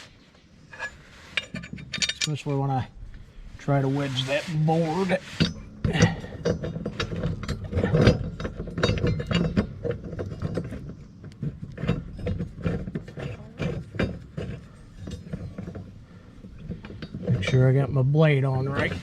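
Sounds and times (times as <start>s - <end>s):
hand tools clinking on metal: 0.7s - 2.8s, 5.0s - 19.0s.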